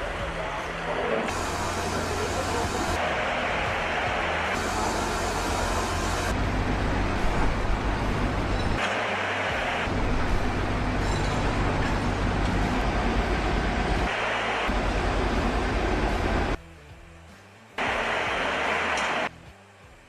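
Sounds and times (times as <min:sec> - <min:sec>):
heavy vehicle engines running: 0:00.0 - 0:16.6, 0:17.8 - 0:19.3.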